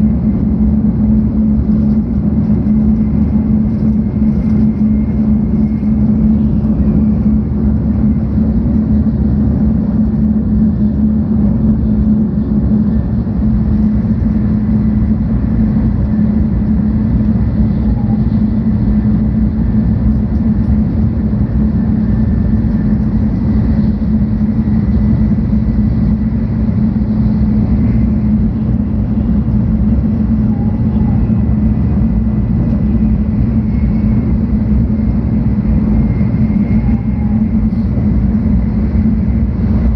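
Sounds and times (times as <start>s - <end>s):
faint high whine: 0.0s - 39.9s
train wheels rumbling on track: 0.0s - 39.9s.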